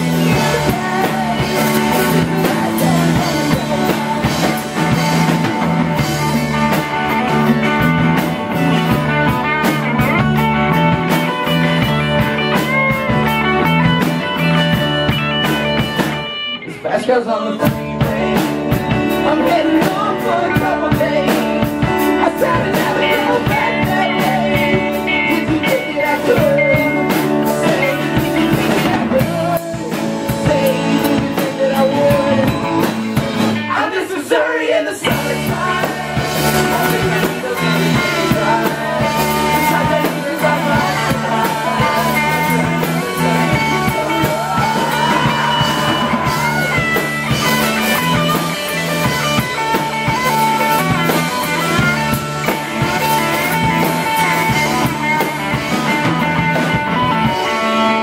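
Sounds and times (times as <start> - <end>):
drum kit: 0.0 - 16.9, 17.6 - 58.0
acoustic guitar: 0.0 - 58.0
bass guitar: 0.0 - 58.0
electric guitars: 0.0 - 58.0.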